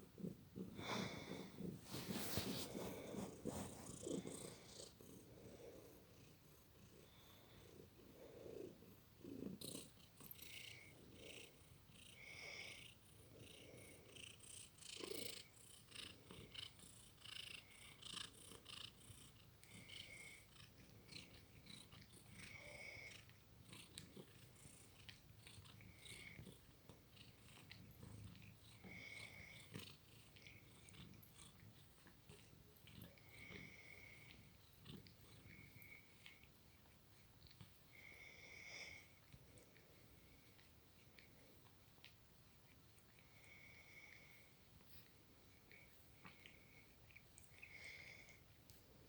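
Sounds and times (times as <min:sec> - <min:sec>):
cat snoring softly: 0:00.0 - 0:36.5, 0:37.9 - 0:41.6, 0:43.2 - 0:48.5.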